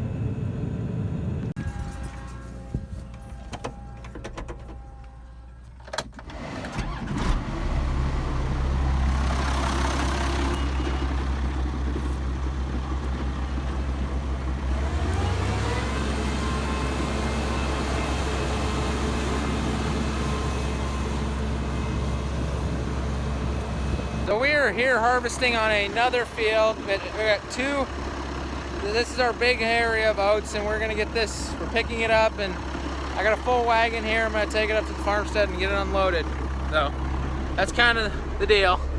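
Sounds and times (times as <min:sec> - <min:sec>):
farm machine engine running: 0:00.4 - 0:38.9.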